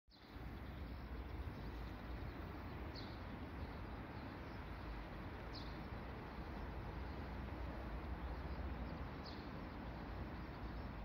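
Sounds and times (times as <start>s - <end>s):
low outdoor rumble: 0.2s - 11.0s.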